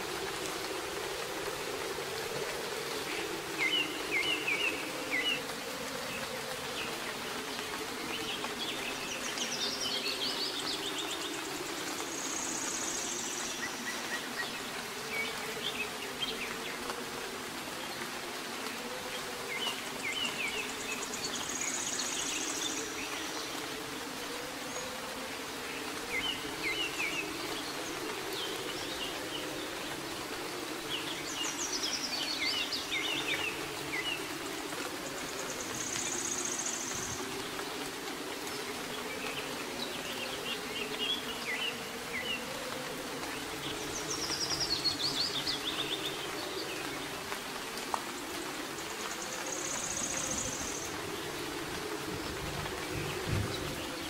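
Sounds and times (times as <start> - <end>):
steady soft rain: 0.0 - 54.0.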